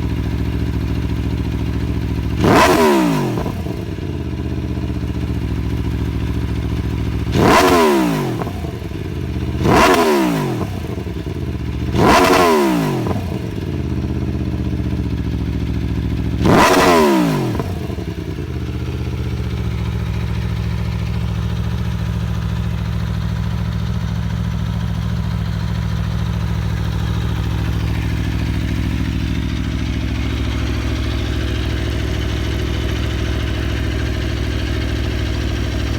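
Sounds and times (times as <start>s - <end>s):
motorcycle engine revving and idling: 0.0s - 35.9s.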